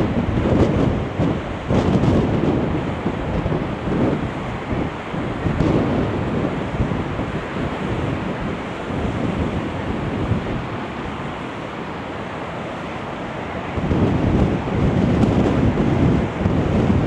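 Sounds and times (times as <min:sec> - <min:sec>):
sea surf: 0:00.0 - 0:17.0
strong wind on microphone: 0:00.0 - 0:17.0.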